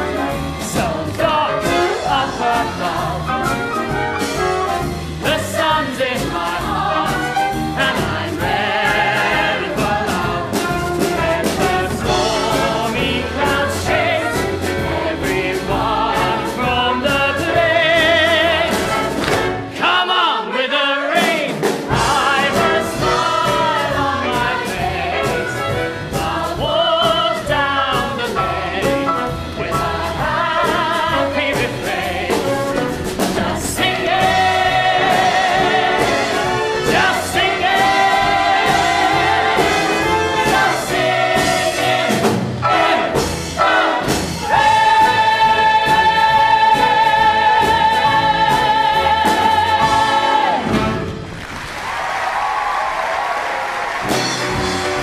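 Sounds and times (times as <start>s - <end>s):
chorus singing: 0.0s - 51.3s
live stage band: 0.0s - 55.0s.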